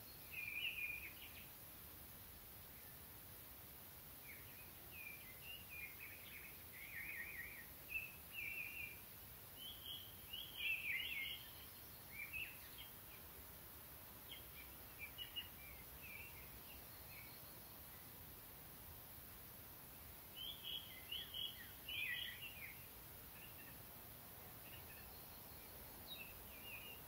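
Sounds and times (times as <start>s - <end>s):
outdoor background hiss: 0.0s - 27.0s
songbird singing faintly: 0.0s - 27.0s.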